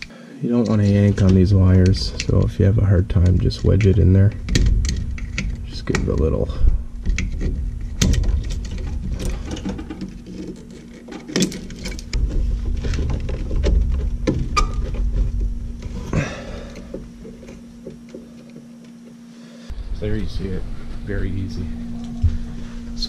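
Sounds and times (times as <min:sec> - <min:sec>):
faint steady hum: 0:00.0 - 0:23.0
wires rustling: 0:00.0 - 0:23.0.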